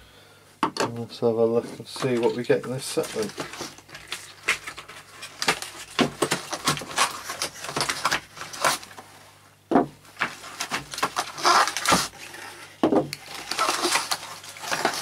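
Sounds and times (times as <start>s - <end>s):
cardboard and packaging rustling: 1.5s - 15.0s.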